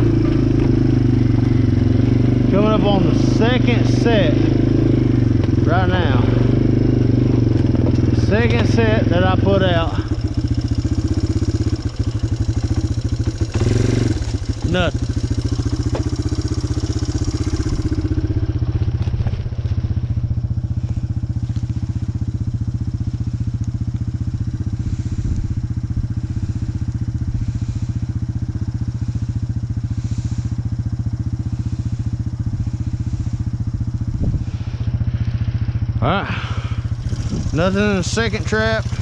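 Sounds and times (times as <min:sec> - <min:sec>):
small vehicle engine running: 0:00.0 - 0:39.0.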